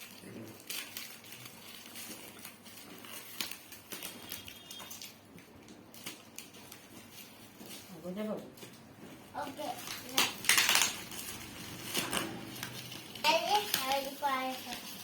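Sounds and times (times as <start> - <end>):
parcel packaging rustling and crackling: 0.0 - 15.0.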